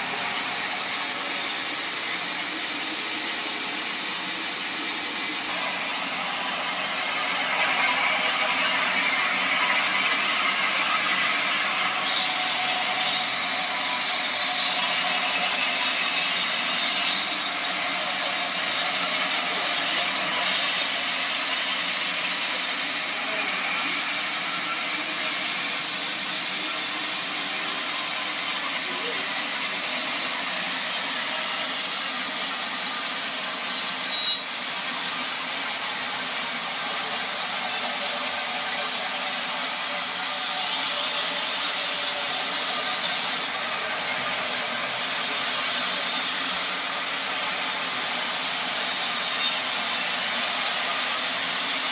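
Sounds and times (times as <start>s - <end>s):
sawmill saw running: 0.0s - 51.9s.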